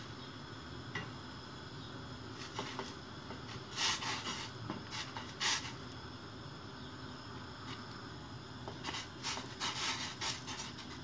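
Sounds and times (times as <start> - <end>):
water boiling and bubbling: 0.0 - 11.0.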